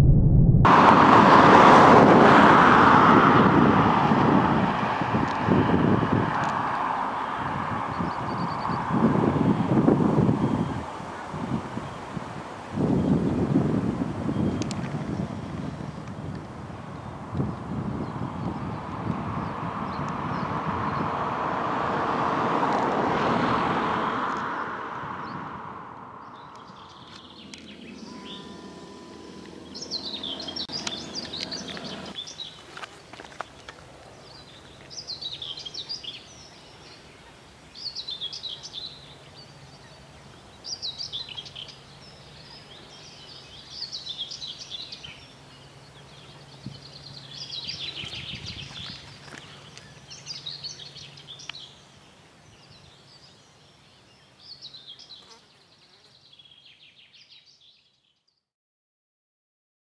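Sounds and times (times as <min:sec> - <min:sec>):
songbird singing: 0:06.3 - 0:21.3, 0:24.2 - 0:58.5.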